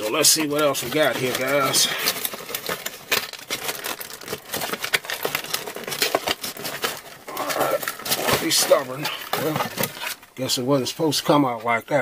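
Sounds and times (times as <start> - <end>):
cardboard and plastic crinkling: 0.0 - 12.0.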